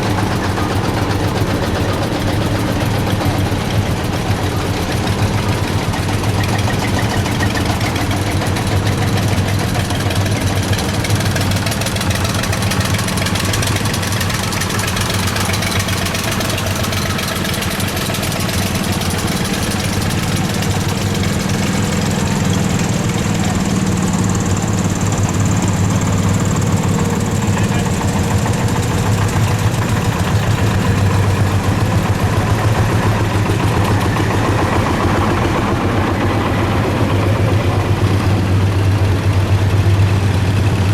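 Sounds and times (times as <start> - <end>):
vehicle engines running: 0.0 - 40.9.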